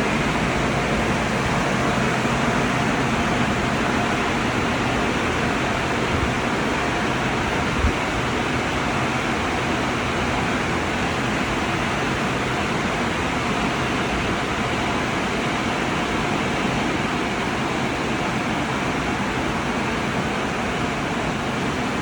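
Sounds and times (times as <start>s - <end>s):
dryer blowers rushing air: 0.0s - 22.0s.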